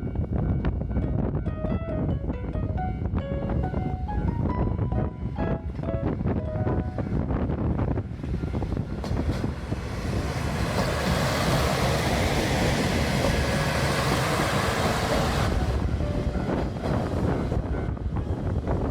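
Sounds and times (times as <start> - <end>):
train passing rumble: 0.0 - 18.9
wind buffeting microphone: 0.0 - 18.9.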